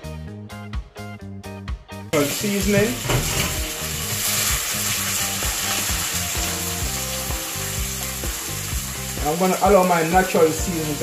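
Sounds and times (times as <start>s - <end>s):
background music with beat: 0.0s - 11.0s
vegetables sizzling in oil: 2.2s - 11.0s.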